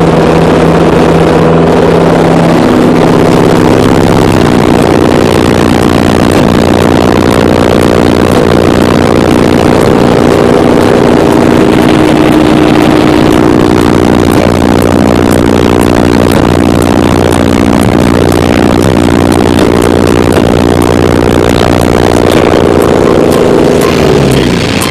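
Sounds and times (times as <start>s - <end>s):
distorted subwoofer bass: 0.0s - 24.9s.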